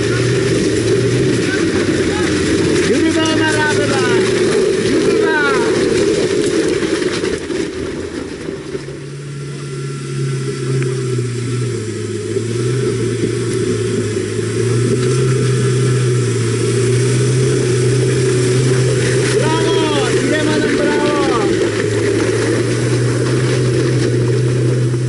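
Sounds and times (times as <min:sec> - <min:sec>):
pickup engines running at low revs: 0:00.0 - 0:25.0
vehicle crawling closer: 0:00.0 - 0:25.0.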